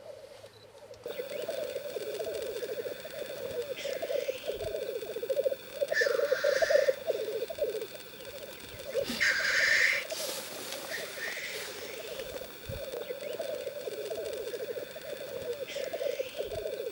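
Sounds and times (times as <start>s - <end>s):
grouse hissing calls: 0.0s - 16.9s
black grouse bubbling song: 1.0s - 16.9s.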